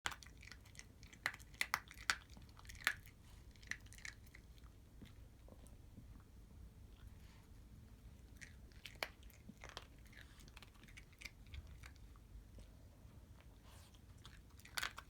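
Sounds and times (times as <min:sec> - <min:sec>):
dog chewing dry kibble: 0:00.1 - 0:05.8, 0:08.0 - 0:15.0.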